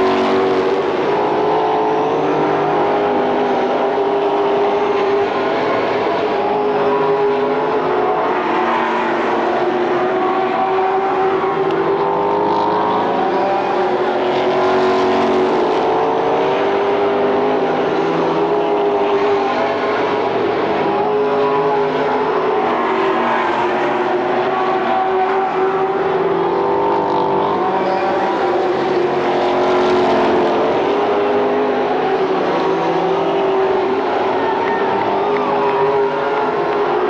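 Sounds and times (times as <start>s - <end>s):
race car engines at high revs: 0.0s - 37.0s.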